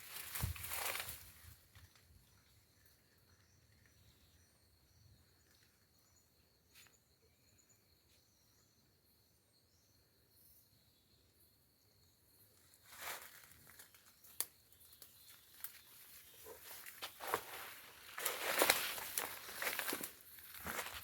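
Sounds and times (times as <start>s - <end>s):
faint chirps: 1.8s - 21.0s.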